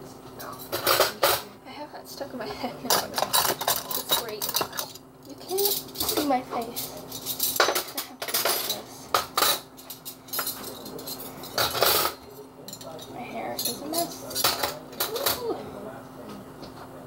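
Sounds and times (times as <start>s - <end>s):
steady low hum: 0.0s - 17.0s
cutlery and dishes clattering: 0.4s - 1.5s, 2.8s - 15.5s.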